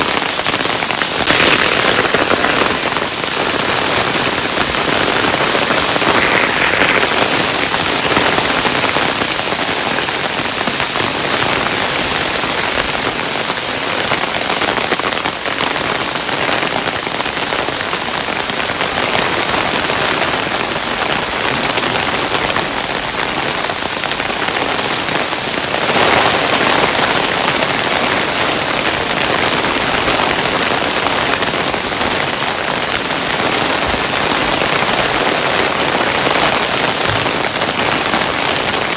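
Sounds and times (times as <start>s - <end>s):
hailstones falling: 0.0s - 38.9s.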